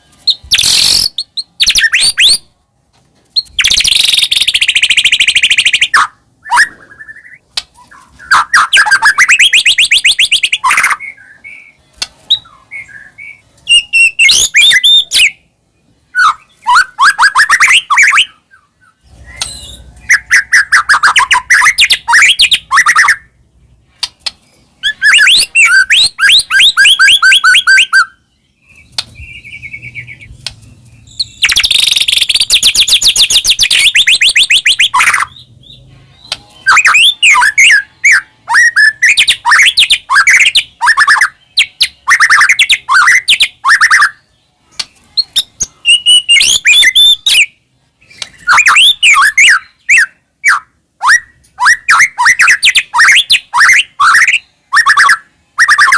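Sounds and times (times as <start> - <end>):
songbird singing trills: 0.0 - 2.5, 3.4 - 55.9.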